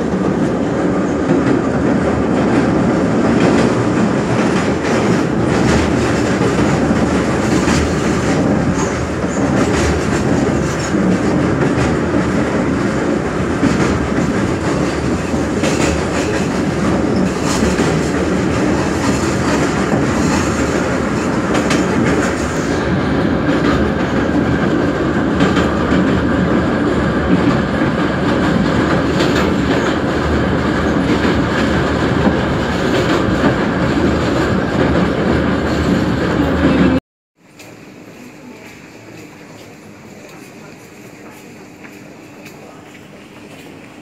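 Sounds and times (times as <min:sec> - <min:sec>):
rail clacks: 0:00.0 - 0:44.0
train wheels rumbling on rails: 0:00.0 - 0:44.0.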